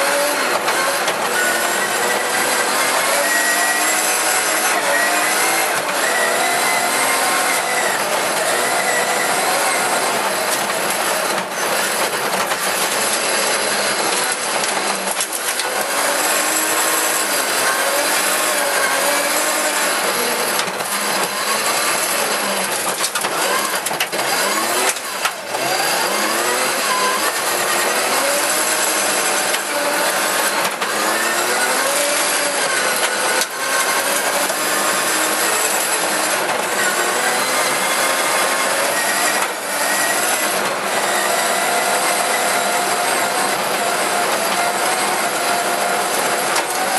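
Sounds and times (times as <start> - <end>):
gravel and tyre noise: 0.0 - 46.9
rally car engine revving: 0.0 - 46.9.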